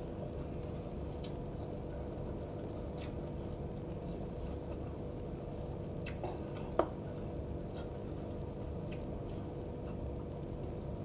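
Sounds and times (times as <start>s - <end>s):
steady low hum: 0.0s - 11.0s
person chewing wetly: 0.4s - 5.0s, 5.6s - 11.0s.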